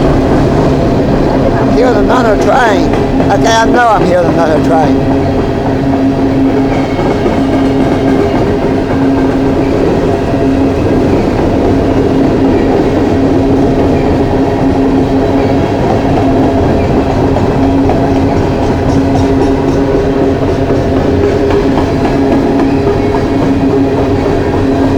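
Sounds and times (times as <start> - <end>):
train cars rumbling past: 0.0 - 24.9.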